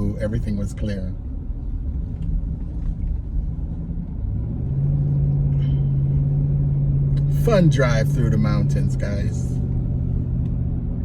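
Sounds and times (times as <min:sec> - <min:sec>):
vehicle road rumble: 0:00.0 - 0:11.0
engine drone: 0:01.3 - 0:11.0.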